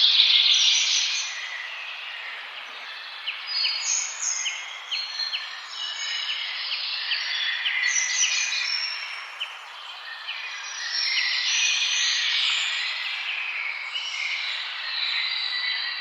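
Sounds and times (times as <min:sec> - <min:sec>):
songbirds chirping and whistling: 0:00.0 - 0:16.0.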